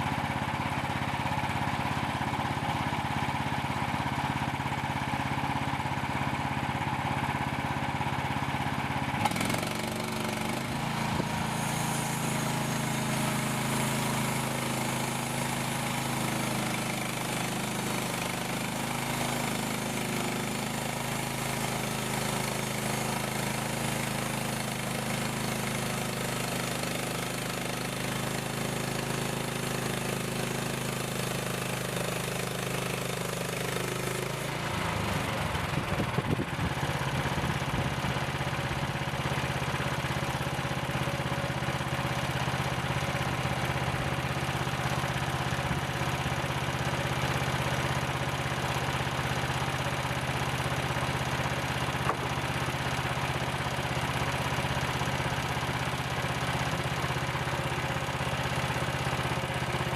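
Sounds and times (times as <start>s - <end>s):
sawmill engine cutting: 0.0s - 59.9s.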